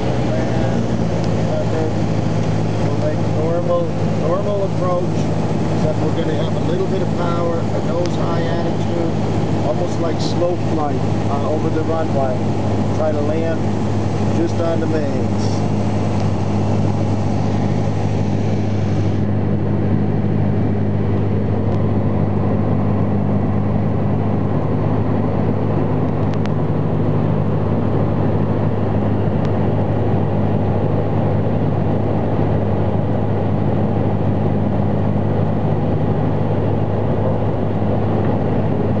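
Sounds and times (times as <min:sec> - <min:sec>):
propeller aircraft engine droning: 0:00.0 - 0:39.0.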